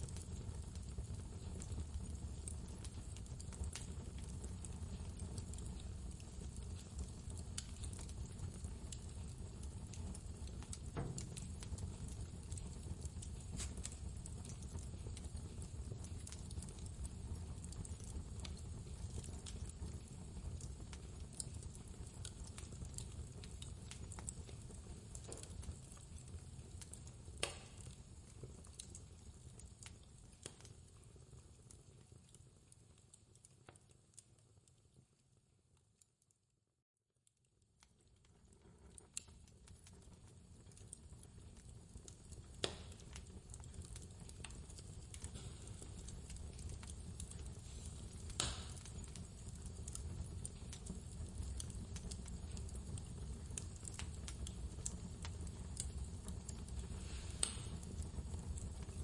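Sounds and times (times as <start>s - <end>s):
fire snap: 0.0s - 34.8s, 37.3s - 59.0s
wood fire crackling: 0.0s - 36.3s, 37.2s - 59.0s.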